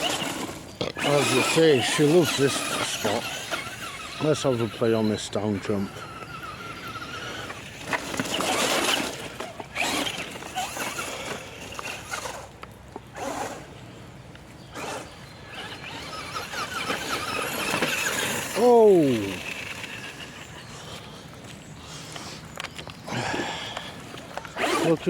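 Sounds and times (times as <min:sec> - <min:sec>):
toy truck motor whining: 0:00.0 - 0:13.7, 0:14.7 - 0:21.0, 0:23.1 - 0:25.0
tyres spinning through wet grass: 0:00.0 - 0:13.8, 0:14.7 - 0:25.0.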